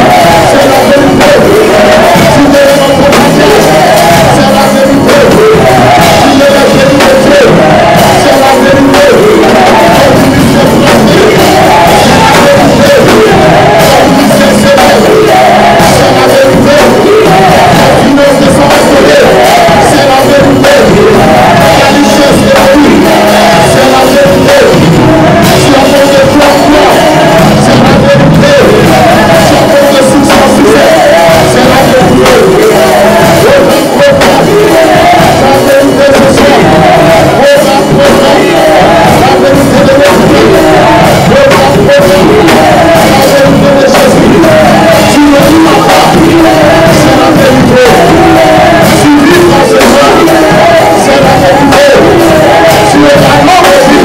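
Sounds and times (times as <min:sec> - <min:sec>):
group singing worship music: 0:00.0 - 0:54.0
musical accompaniment: 0:00.0 - 0:54.0.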